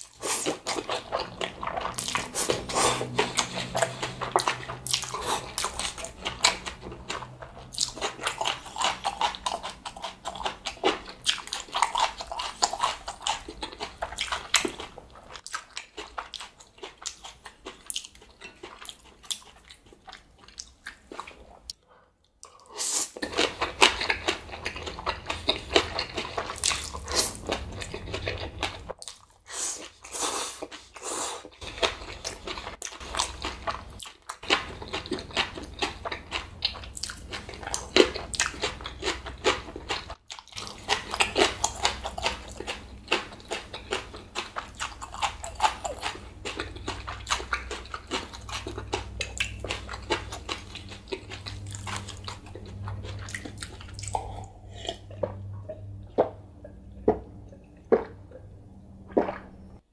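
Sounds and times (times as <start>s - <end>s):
wet chewing and biting: 0.0s - 21.8s, 22.4s - 59.8s.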